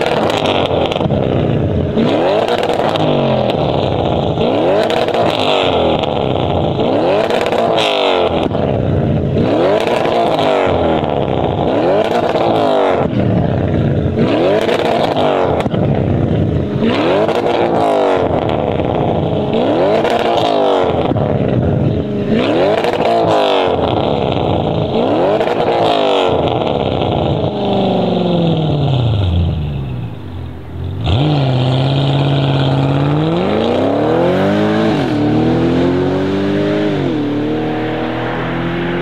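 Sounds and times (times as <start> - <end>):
car engine revving: 0.0 - 39.0
engine pulling away with gear changes: 0.0 - 39.0.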